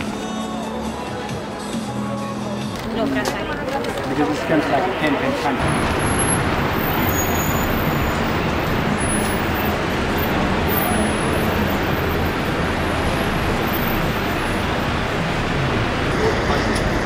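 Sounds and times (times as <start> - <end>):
cars passing: 0.0 - 17.0
traffic rumble and tyre hiss: 2.6 - 17.0.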